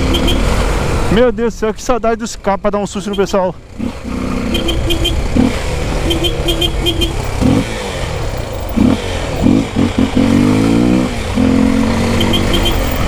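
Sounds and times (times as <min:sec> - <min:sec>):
motorcycle engine revving: 0:00.0 - 0:01.2, 0:03.1 - 0:13.0.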